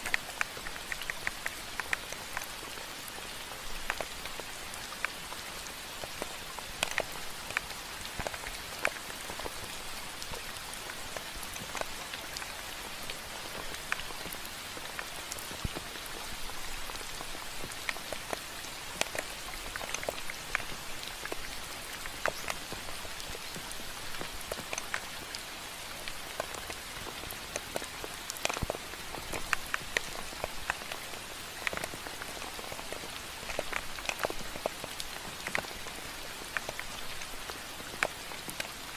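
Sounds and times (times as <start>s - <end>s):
raindrops ticking on a surface: 0.0s - 38.9s
steady rain: 0.0s - 38.9s.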